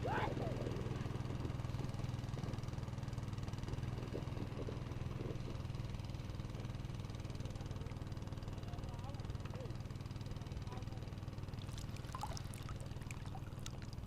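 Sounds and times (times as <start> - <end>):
small boat engine running: 0.0 - 14.0.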